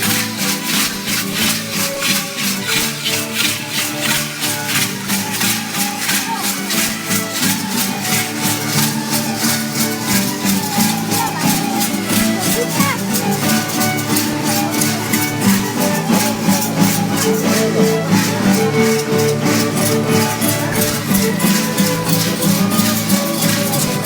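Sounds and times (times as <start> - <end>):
rattle shaken in quick beat: 0.0 - 24.0
stringed instruments playing: 0.0 - 24.0.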